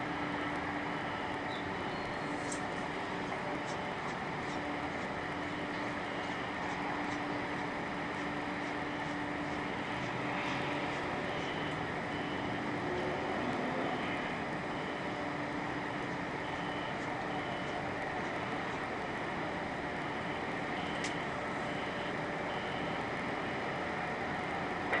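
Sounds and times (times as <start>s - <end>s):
low city hum: 0.0s - 25.0s.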